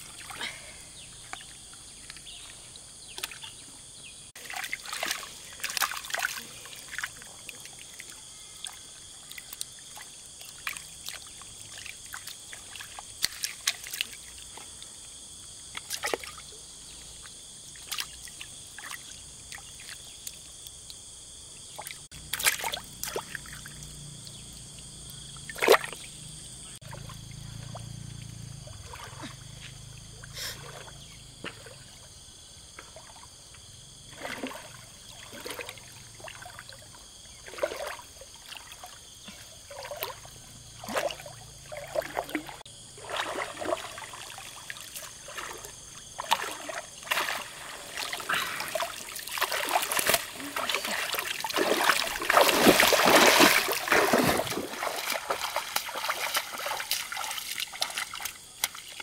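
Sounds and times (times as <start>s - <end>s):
water splashing and trickling: 0.0s - 59.0s.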